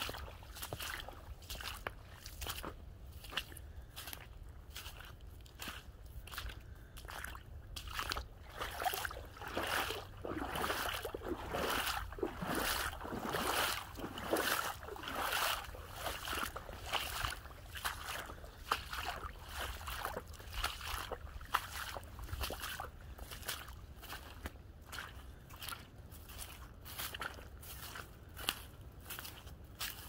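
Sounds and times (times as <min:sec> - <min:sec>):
footsteps squelching through water and mud: 0:00.0 - 0:30.0.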